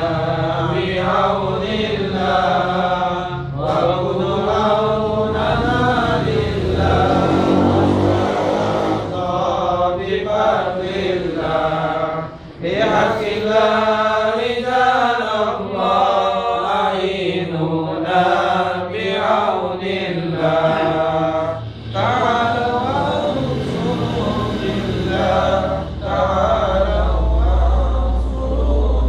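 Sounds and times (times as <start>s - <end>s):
men chanting together: 0.0s - 29.0s.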